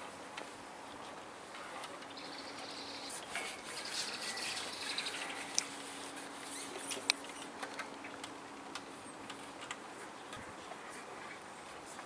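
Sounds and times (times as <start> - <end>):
small birds chirping: 0.8 - 12.0.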